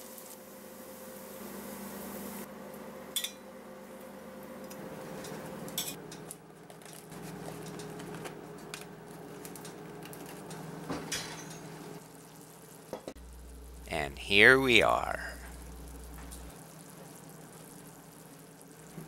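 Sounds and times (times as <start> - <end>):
low steady hum: 3.1 - 19.0.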